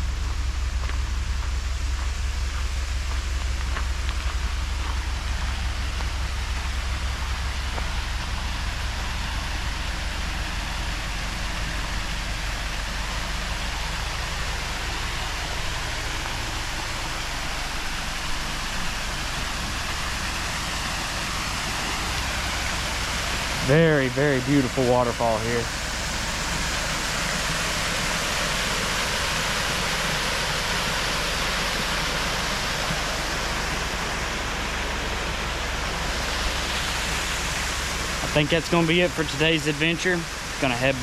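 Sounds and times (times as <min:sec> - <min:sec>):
low rumble: 0:00.0 - 0:40.6
waterfall rushing: 0:04.7 - 0:41.0.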